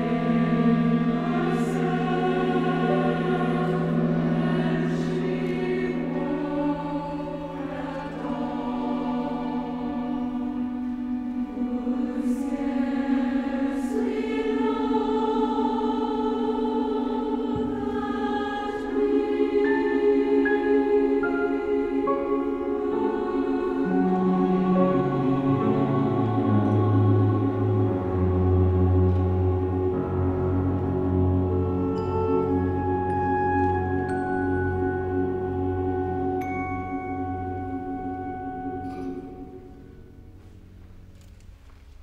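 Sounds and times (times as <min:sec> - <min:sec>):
choir singing: 0:00.0 - 0:40.8
orchestral accompaniment: 0:00.0 - 0:41.2.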